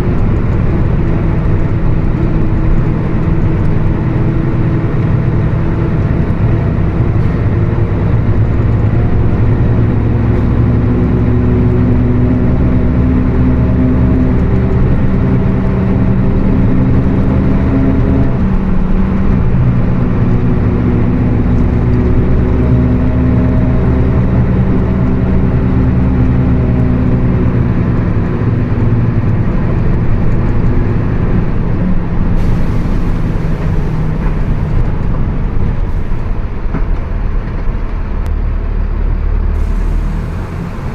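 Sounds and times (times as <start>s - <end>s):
bus engine growling: 0.0s - 40.9s.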